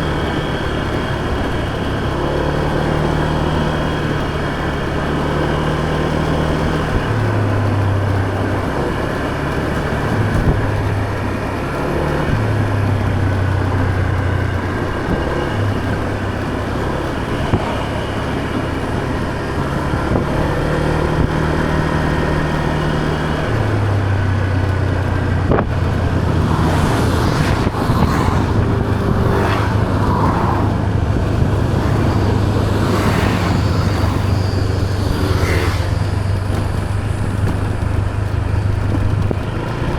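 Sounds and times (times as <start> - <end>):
scooter engine revving: 0.0 - 39.9
steady rushing noise: 0.0 - 39.9.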